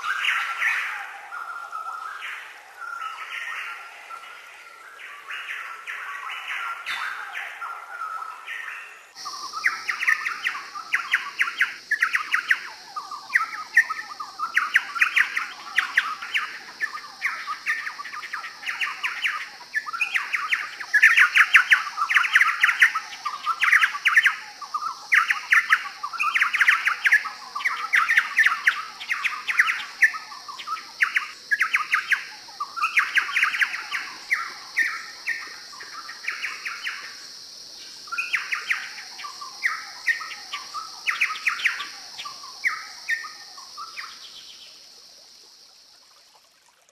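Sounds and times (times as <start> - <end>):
birds singing rapid notes: 5.1 - 44.4.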